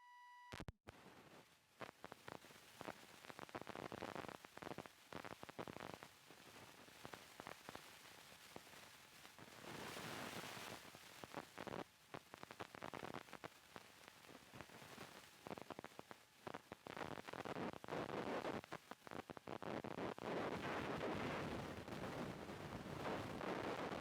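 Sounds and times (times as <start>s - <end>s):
faint crackling and rustling: 0.9s - 24.0s.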